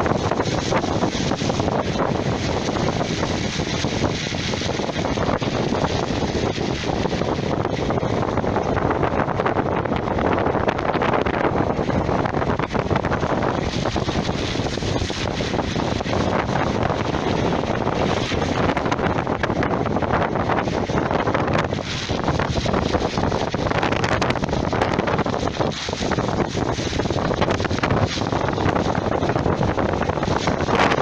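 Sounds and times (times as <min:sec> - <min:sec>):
wind blowing across microphone: 0:00.0 - 0:31.0.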